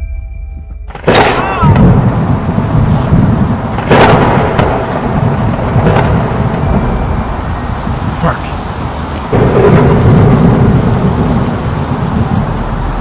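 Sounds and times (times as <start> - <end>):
rain hiss: 0.9 - 13.0
rumble of thunder: 0.9 - 13.0
sharp thunder cracks: 0.9 - 13.0.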